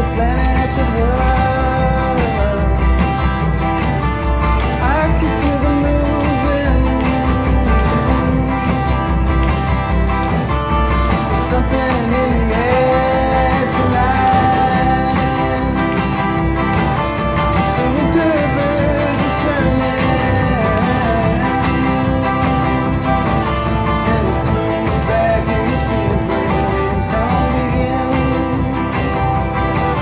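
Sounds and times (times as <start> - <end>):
person singing: 0.0 - 9.4, 11.0 - 30.0
acoustic guitar strumming: 0.0 - 30.0.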